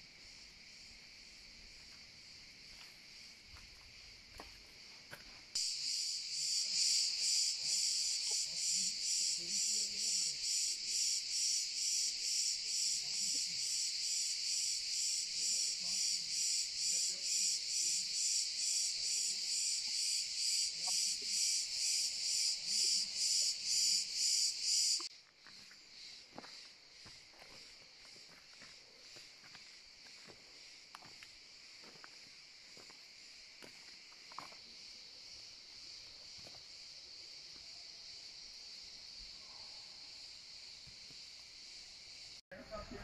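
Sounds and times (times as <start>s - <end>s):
cicadas buzzing: 0.0s - 43.0s.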